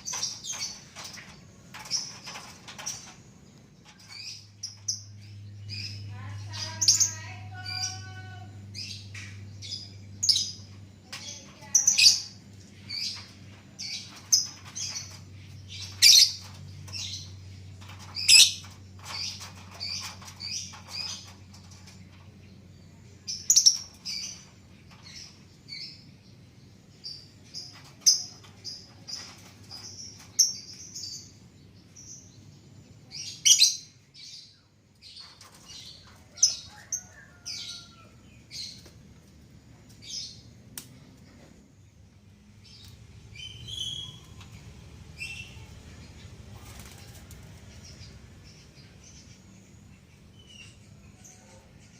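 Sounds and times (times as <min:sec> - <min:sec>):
lovebirds chirping: 0:00.0 - 0:51.9.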